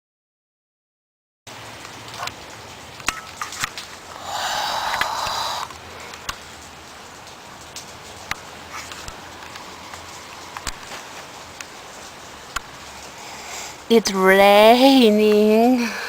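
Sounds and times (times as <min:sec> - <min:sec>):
steady rain: 0:01.5 - 0:16.0.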